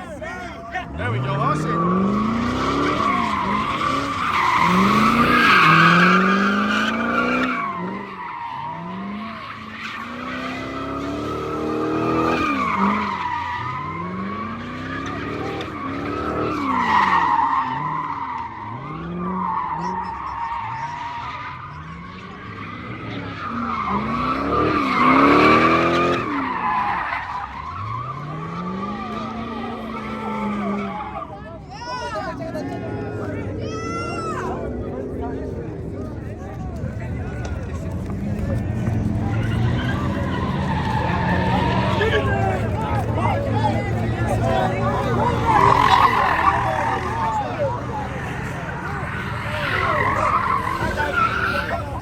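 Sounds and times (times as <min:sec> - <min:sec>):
car engine revving: 0:00.0 - 0:52.0
car tires squealing: 0:00.0 - 0:52.0.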